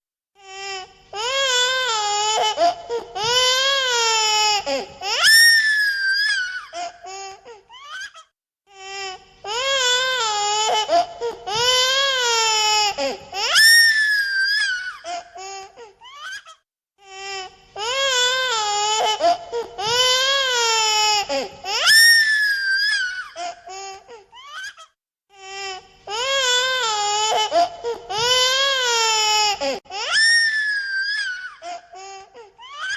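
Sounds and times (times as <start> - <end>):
baby crying: 0.4 - 24.8, 25.4 - 32.9.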